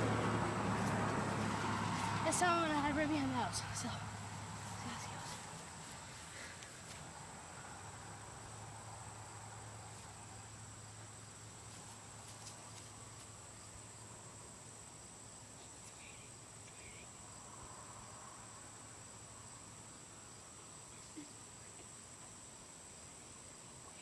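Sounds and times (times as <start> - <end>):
faint low hum: 0.0 - 24.0
insects trilling: 0.0 - 24.0.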